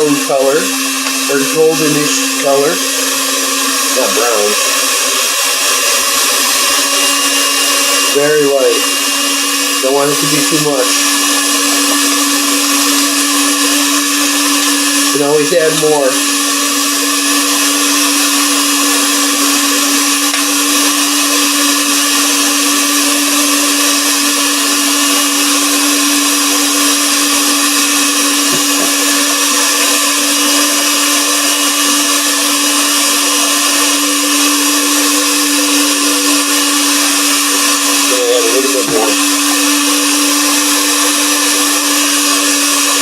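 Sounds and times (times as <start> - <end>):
electric mixer running: 0.0 - 43.0.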